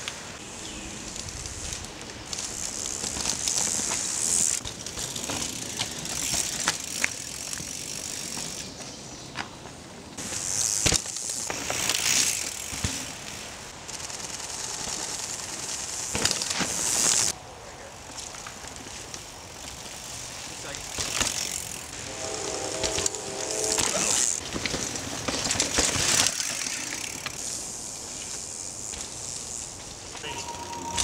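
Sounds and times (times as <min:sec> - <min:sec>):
bike tyres crunching over dirt: 0:00.1 - 0:31.0
bike clicks and rattles: 0:01.0 - 0:09.5, 0:10.2 - 0:17.4, 0:18.0 - 0:21.9, 0:24.2 - 0:30.3.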